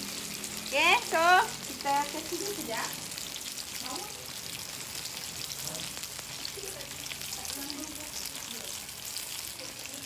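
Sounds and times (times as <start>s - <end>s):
fish deep-frying in oil: 0.0s - 10.0s.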